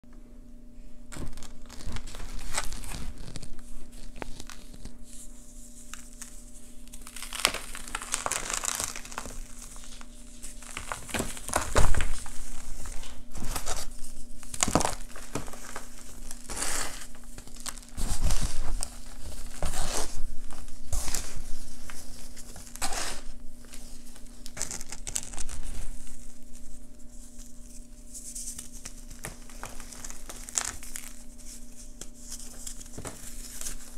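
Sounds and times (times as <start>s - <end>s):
faint low hum: 0.1s - 33.9s.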